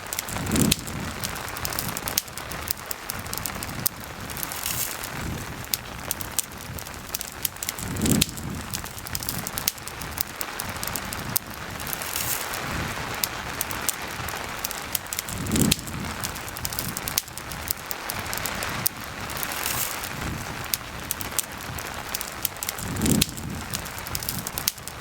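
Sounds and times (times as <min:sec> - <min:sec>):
campfire crackling: 0:00.0 - 0:25.0
steady rain: 0:00.0 - 0:25.0.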